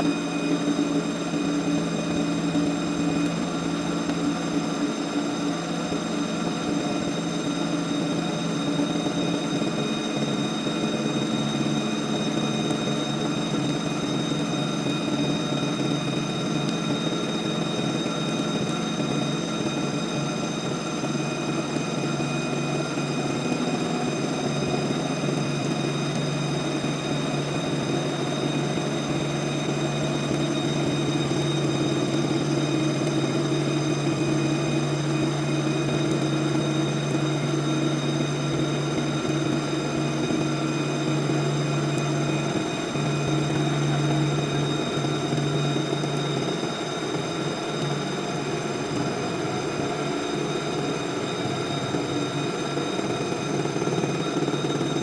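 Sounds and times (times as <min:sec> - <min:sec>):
high machine whine: 0:00.0 - 0:55.0
milling machine hum: 0:00.0 - 0:55.0.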